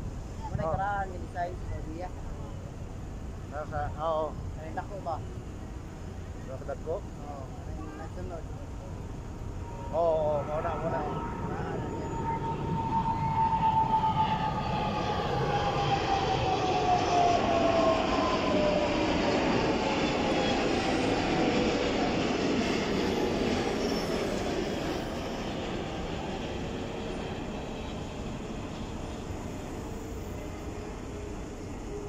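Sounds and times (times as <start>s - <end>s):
jet airliner roaring overhead: 0.2s - 32.0s.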